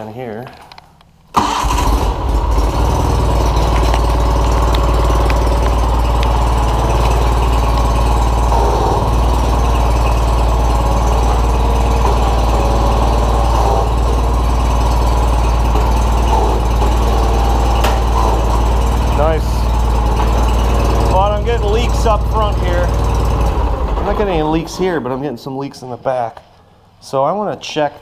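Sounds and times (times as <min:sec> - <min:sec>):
garden tractor engine running: 0:01.4 - 0:25.1.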